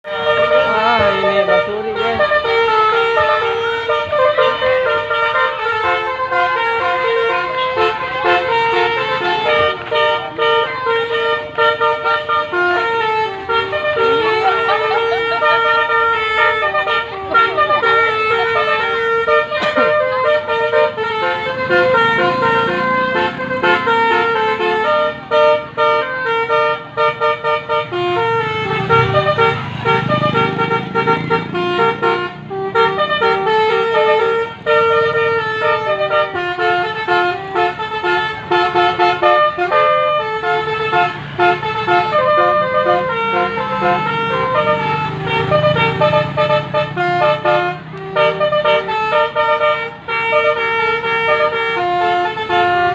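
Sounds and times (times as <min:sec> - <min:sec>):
musical bus horn melody: 0:00.0 - 0:52.9.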